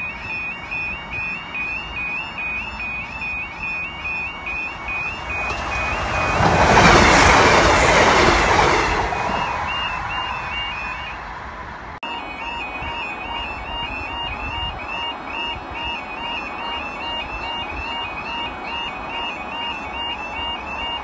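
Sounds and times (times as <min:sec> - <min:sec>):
level crossing alarm warbling: 0:00.0 - 0:11.4, 0:12.0 - 0:21.0
train passing: 0:00.0 - 0:21.0.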